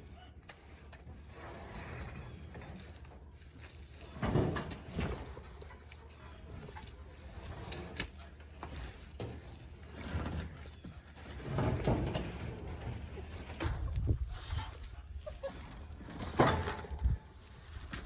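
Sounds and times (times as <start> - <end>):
small wheels rumbling: 0.0 - 18.0.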